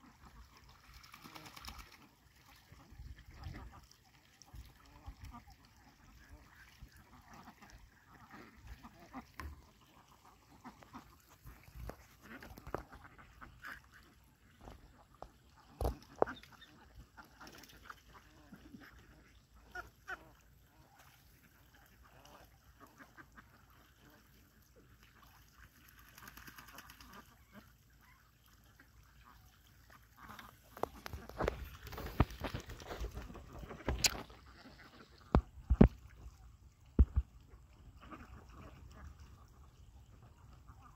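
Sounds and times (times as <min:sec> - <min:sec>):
ducks quacking: 0:02.6 - 0:36.4, 0:37.0 - 0:40.9.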